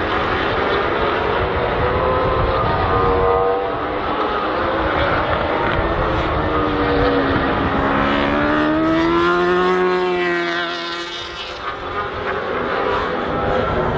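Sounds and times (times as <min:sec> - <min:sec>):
motorcycle engine passing at speed: 0:00.0 - 0:13.9.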